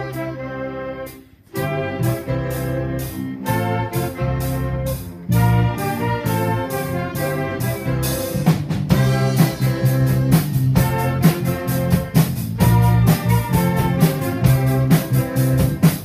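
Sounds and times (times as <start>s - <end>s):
orchestra playing rock arrangement: 0.0s - 16.0s.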